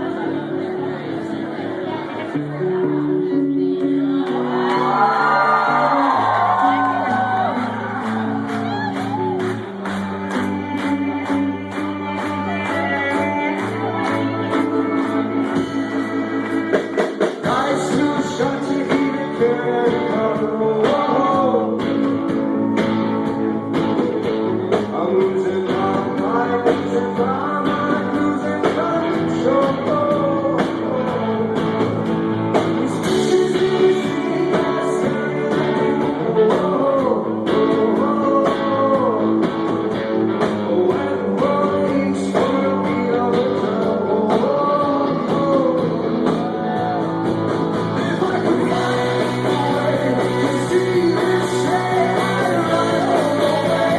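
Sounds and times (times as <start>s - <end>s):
person singing: 0.0s - 23.2s, 24.2s - 53.9s
bass notes: 0.0s - 53.9s
guitar: 0.0s - 53.9s.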